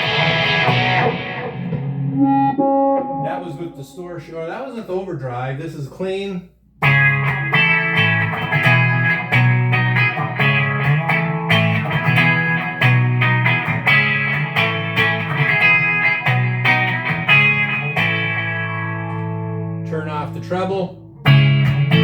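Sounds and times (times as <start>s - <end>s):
clean electric guitar playing: 0.0s - 4.2s, 6.8s - 22.0s.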